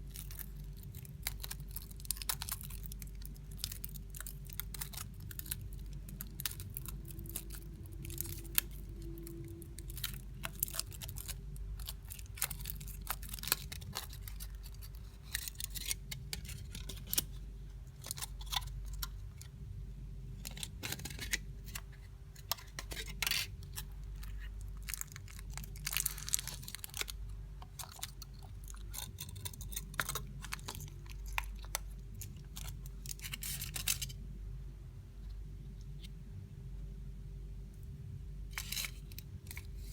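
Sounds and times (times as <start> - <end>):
foil wrapper crinkling and tearing: 0.0 - 19.3, 22.5 - 34.2, 38.5 - 39.9
steady low hum: 0.0 - 39.9.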